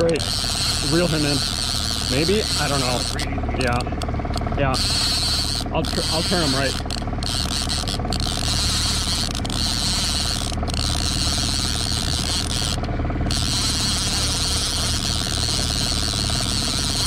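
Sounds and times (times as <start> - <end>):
fishing reel gears clicking: 0.0 - 17.0
steady low hum: 0.0 - 17.0.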